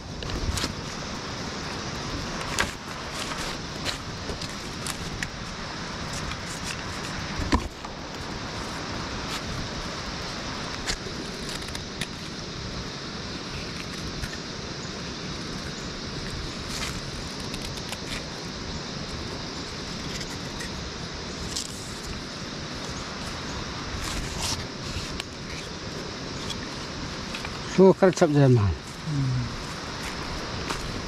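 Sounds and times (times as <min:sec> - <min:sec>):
outdoor background hiss: 0:00.0 - 0:31.0.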